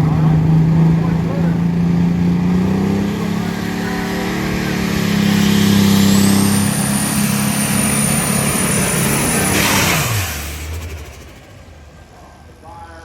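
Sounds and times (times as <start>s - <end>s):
tractor engine revving hard: 0.0s - 11.6s.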